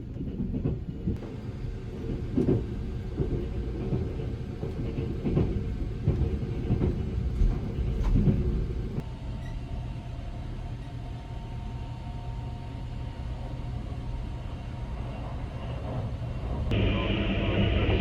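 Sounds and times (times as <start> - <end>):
steady train hum: 0.0 - 18.0
train rumbling with knocks: 0.0 - 18.0.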